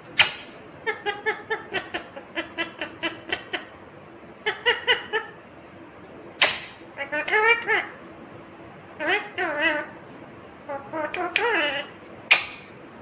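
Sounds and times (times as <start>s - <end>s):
parakeet squawking and calling: 0.1s - 5.5s, 6.4s - 8.0s, 8.9s - 12.8s.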